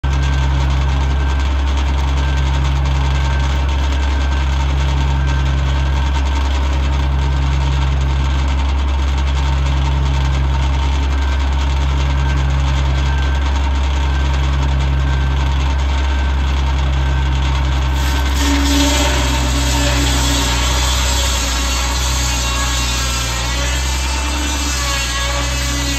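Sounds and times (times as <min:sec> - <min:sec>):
tractor engine drone: 0:00.0 - 0:25.9
sawmill blade spinning: 0:00.1 - 0:25.9.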